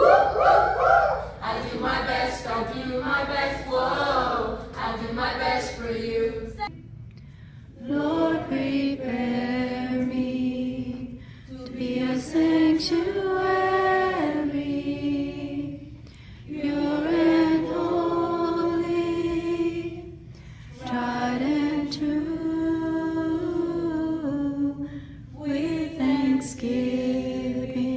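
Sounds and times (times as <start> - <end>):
group singing unaccompanied: 0.0 - 6.7, 7.8 - 27.9.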